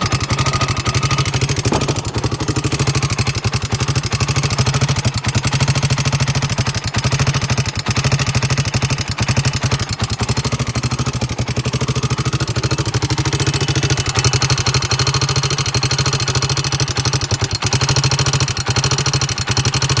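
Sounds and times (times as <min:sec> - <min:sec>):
loud fast engine tick: 0:00.0 - 0:20.0
quad engine running: 0:00.0 - 0:20.0.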